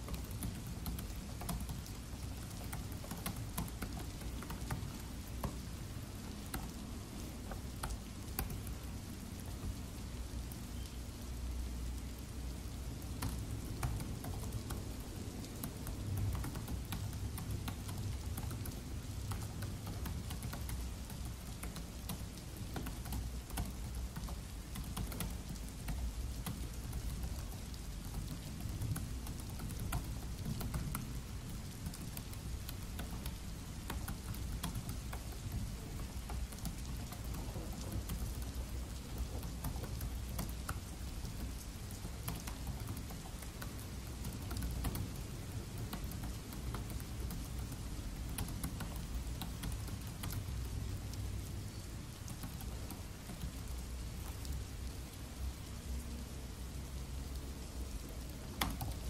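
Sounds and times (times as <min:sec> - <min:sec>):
steady rain: 0:00.0 - 0:59.0
laptop keyboard typing: 0:00.1 - 0:05.8, 0:07.5 - 0:08.8, 0:13.1 - 0:51.2, 0:52.1 - 0:54.6, 0:58.6 - 0:59.0.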